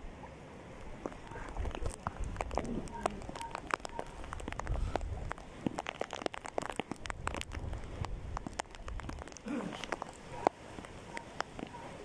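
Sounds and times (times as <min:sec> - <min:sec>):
heavy rain: 0:01.0 - 0:12.0.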